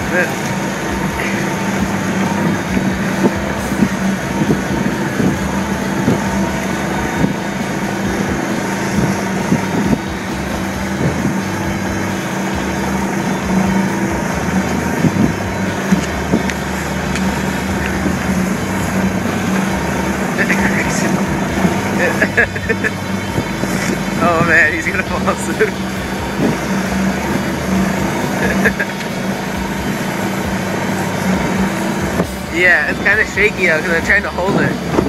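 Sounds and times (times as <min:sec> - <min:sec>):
golf cart motor hum: 0:00.0 - 0:35.0
rumbling ride noise: 0:00.0 - 0:35.0.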